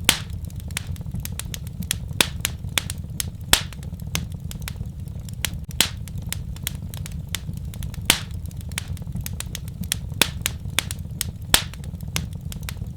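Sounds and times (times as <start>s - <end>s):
fire crackling in a fireplace: 0.0s - 12.9s.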